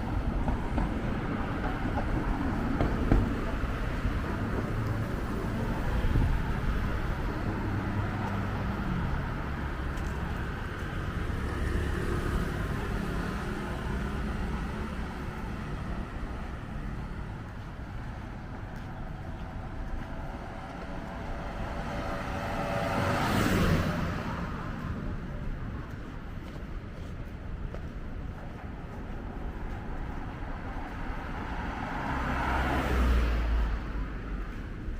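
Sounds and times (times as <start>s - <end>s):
city street traffic rumble: 0.0s - 34.9s.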